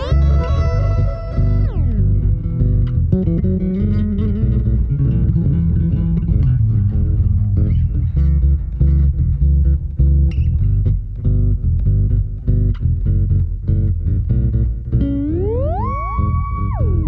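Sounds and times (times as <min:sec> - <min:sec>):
solo electric bass playing: 0:00.0 - 0:17.0.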